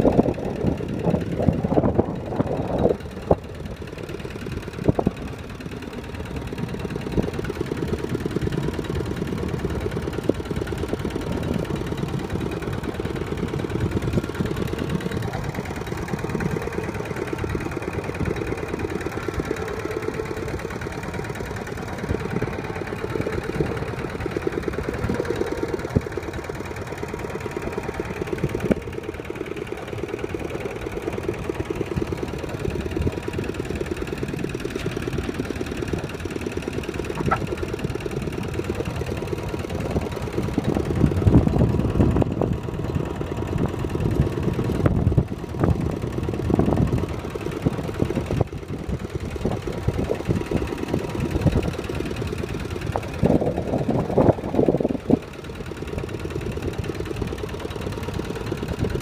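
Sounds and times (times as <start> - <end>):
walking tractor engine chugging: 0.0 - 59.0.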